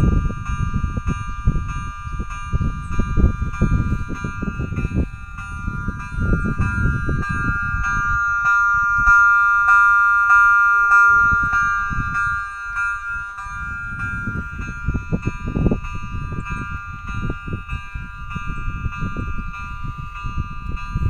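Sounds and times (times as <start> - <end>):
level crossing warning alarm: 0.0 - 21.0.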